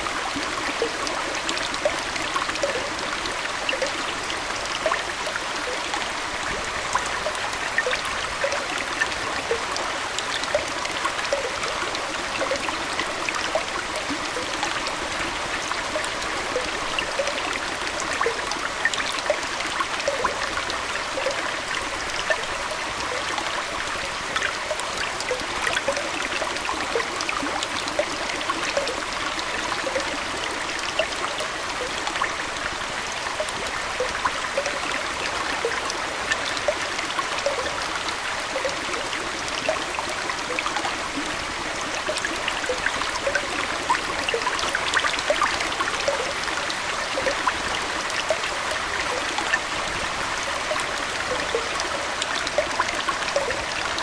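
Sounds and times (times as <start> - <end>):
aquarium water trickling: 0.0 - 54.0.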